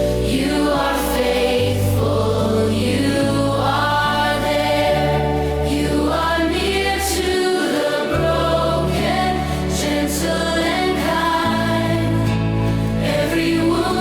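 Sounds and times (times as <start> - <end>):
acoustic worship music: 0.0 - 14.0.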